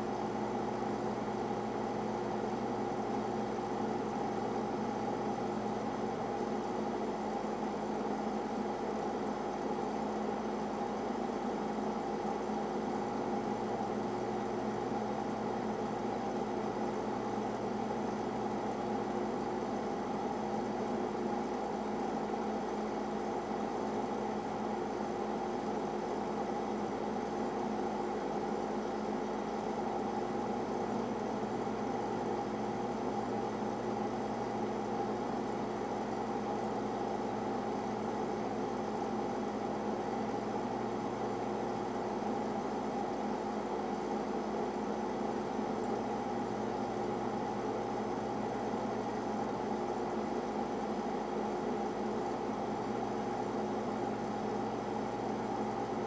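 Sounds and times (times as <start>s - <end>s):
boiler room machinery humming: 0.0s - 56.0s.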